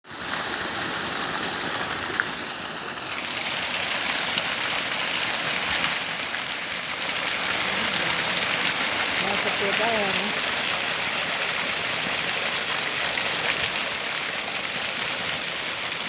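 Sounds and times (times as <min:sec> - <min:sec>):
rushing water: 0:00.1 - 0:16.0.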